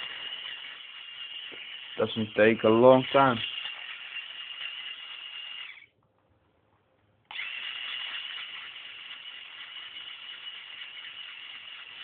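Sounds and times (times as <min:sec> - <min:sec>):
electric motor whirring: 0:00.0 - 0:05.9, 0:07.3 - 0:12.0.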